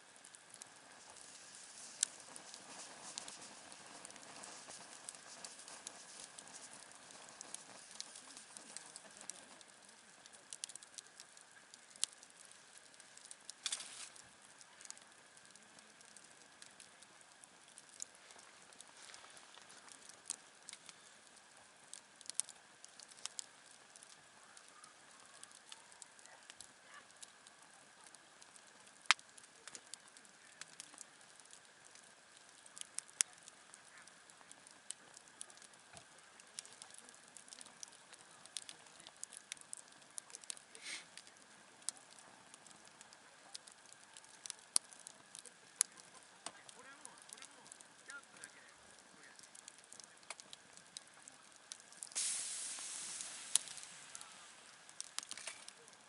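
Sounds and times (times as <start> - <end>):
campfire crackling: 0.0 - 56.0
soft steady hiss: 0.0 - 56.0.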